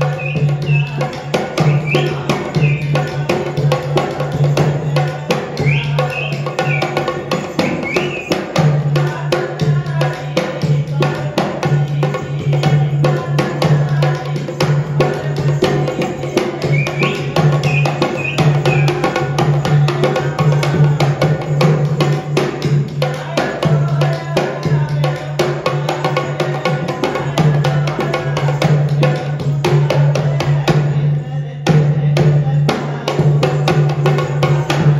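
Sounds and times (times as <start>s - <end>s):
fast drum strokes: 0.0s - 31.0s.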